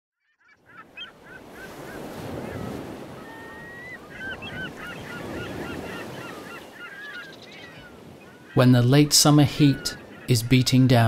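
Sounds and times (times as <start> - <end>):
wind: 0.1 - 11.0
seagulls calling: 0.2 - 11.0.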